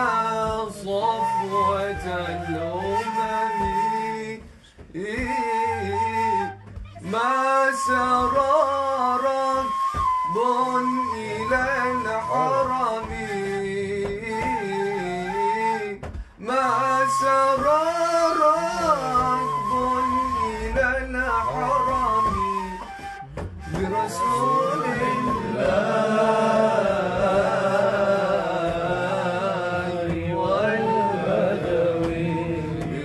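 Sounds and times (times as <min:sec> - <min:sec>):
man singing devotional song: 0:00.0 - 0:33.0.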